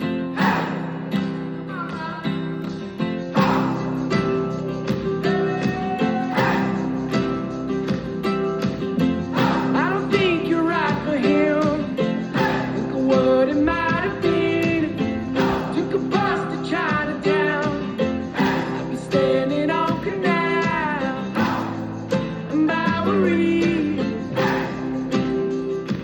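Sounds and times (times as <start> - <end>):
song with plucked guitar: 0.0 - 26.0.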